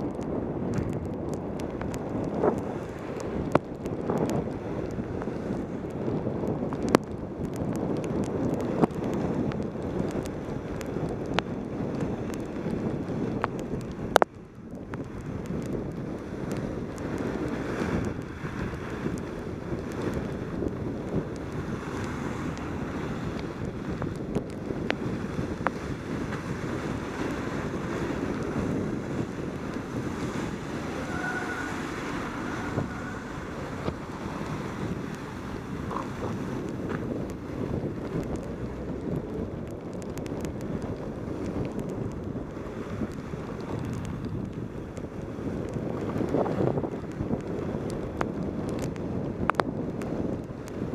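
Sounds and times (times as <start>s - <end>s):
wind rushing on microphone: 0.0s - 50.9s.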